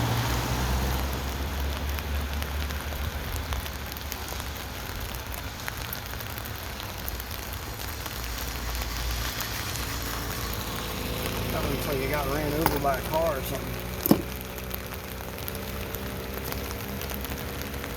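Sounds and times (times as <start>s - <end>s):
rain on a tent: 0.0s - 17.9s.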